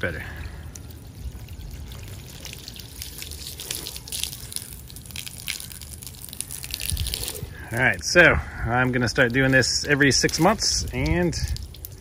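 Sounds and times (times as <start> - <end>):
water dripping: 0.0 - 12.0
hose water splashing on fabric: 0.8 - 7.9, 8.8 - 12.0.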